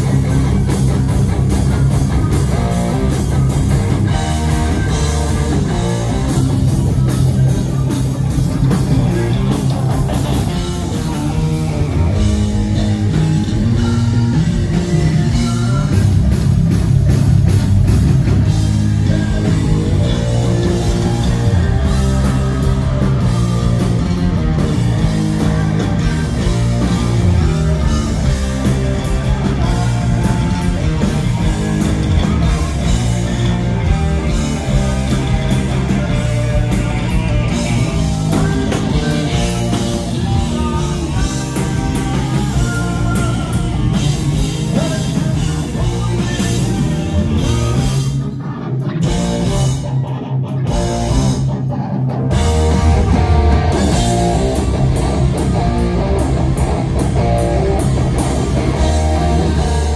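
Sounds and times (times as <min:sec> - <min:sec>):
heavy metal band playing: 0:00.0 - 0:59.9.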